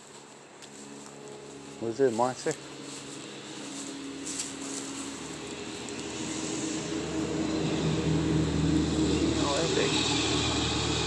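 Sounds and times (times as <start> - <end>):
mechanical drone with low hum: 0.0 - 11.0.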